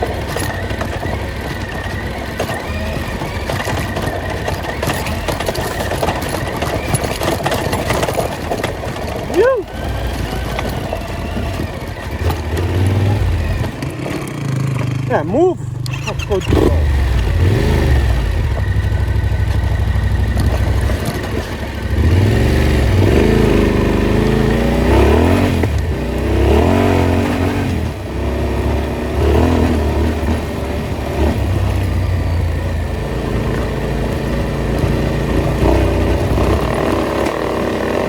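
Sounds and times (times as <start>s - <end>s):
off-road vehicle engine revving: 0.0s - 38.0s.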